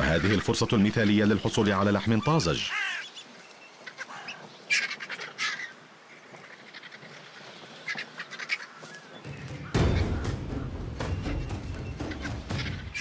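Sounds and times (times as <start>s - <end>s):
vultures squabbling: 0.0s - 13.0s
short bird calls: 2.6s - 13.0s.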